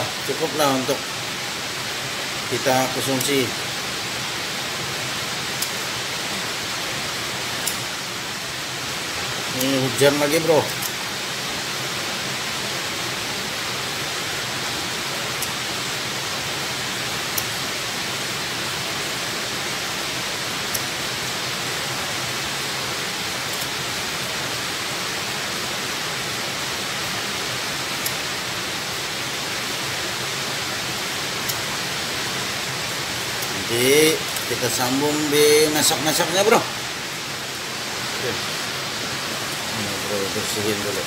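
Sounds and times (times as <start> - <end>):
heavy rain on metal roof: 0.0 - 41.0.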